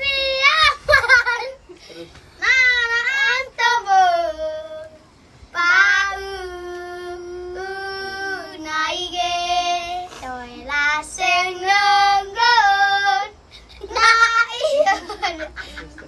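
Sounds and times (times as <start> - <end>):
child singing: 2.4 - 5.0, 5.6 - 16.0.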